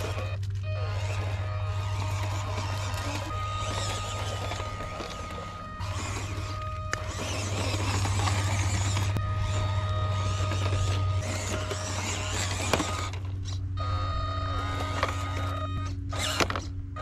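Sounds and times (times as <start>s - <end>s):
stones clicking under tyres: 0.0s - 13.7s, 14.5s - 17.0s
toy truck motor whining: 0.0s - 17.0s.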